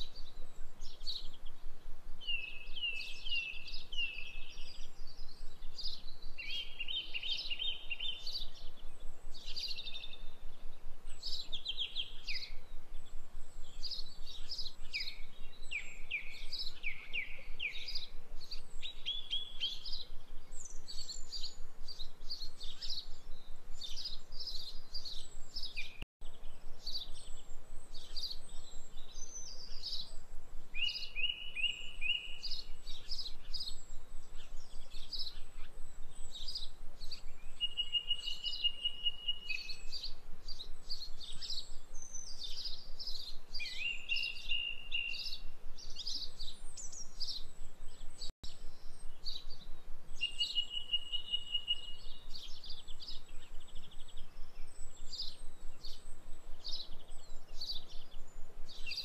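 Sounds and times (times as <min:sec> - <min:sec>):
small birds chirping: 0:00.0 - 0:59.0
steady low hiss: 0:00.0 - 0:59.0.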